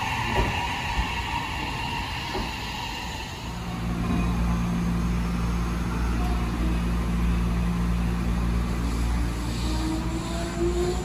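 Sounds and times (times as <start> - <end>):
electric train humming: 0.0 - 11.0
electric train rolling: 0.0 - 11.0.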